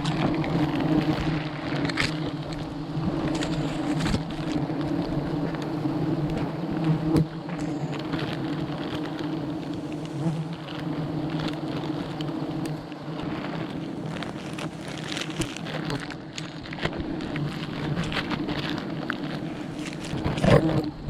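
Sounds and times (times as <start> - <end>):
bees buzzing: 0.0 - 21.0
crackling and rustling clicks: 0.0 - 21.0.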